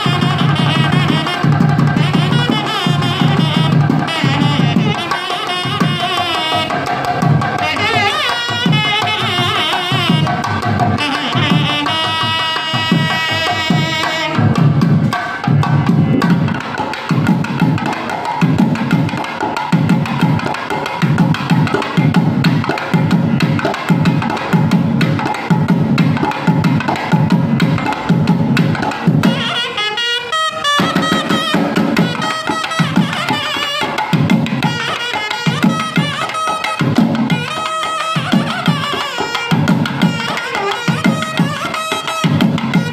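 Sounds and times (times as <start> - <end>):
drum rhythm: 0.0 - 42.9
nadaswaram melody: 0.0 - 42.9.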